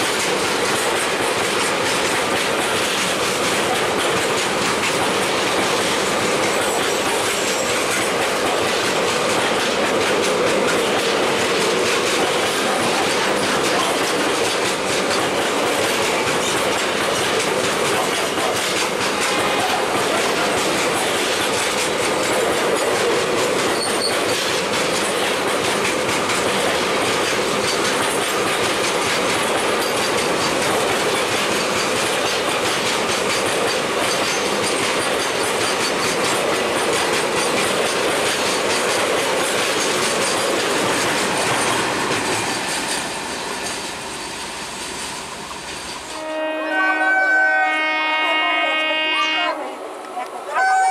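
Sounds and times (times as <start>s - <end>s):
train wheels clattering over rail joints: 0.0s - 46.2s.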